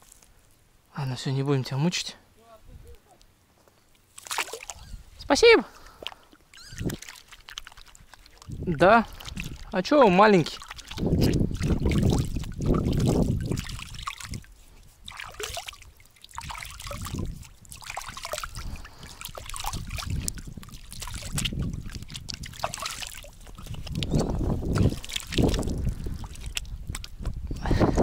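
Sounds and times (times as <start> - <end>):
water splashing and trickling: 4.0 - 28.0.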